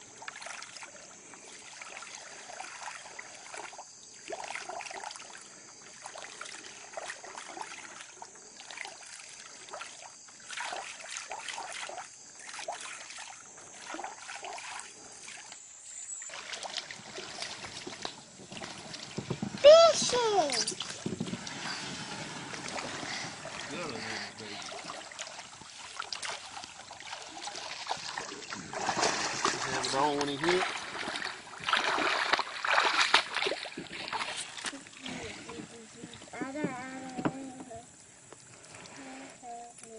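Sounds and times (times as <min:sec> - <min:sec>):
small splashes and drips: 0:00.0 - 0:39.9
water lapping around boat: 0:00.0 - 0:39.9.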